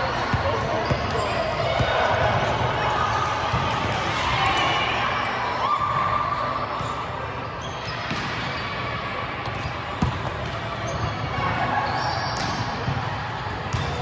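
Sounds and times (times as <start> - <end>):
voices and movement in a gym: 0.0 - 14.0.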